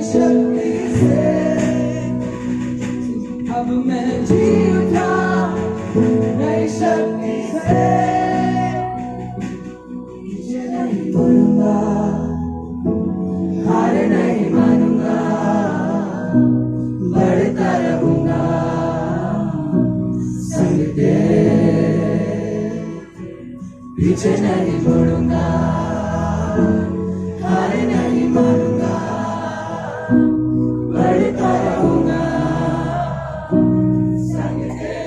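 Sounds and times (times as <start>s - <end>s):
instrumental accompaniment: 0.0s - 35.0s
voices singing worship song: 0.0s - 35.0s.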